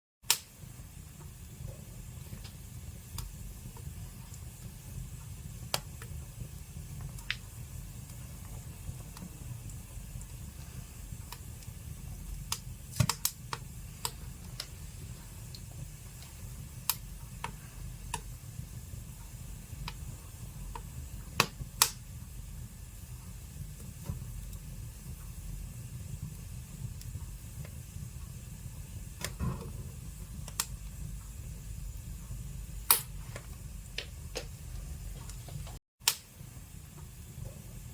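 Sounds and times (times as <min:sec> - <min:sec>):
fire crackles and pops: 0:00.2 - 0:37.9
fire flames rumbling: 0:00.3 - 0:37.9.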